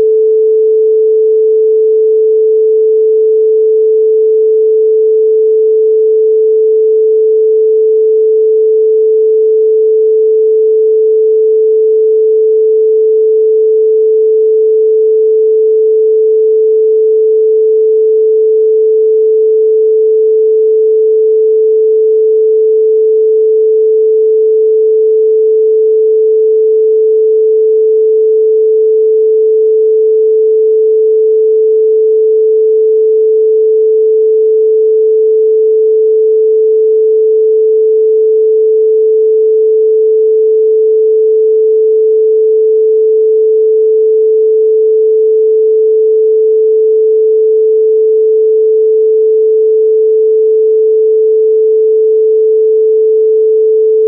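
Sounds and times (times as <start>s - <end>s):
steady sine tone: 0.0s - 54.0s.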